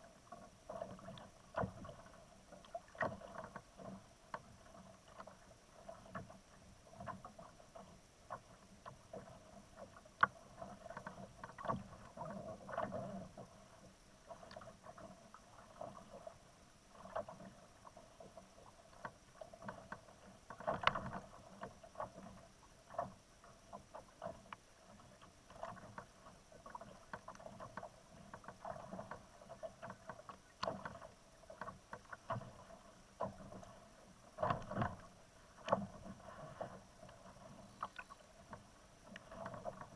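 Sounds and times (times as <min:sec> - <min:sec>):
water slapping against kayak hull: 0:00.0 - 0:39.9.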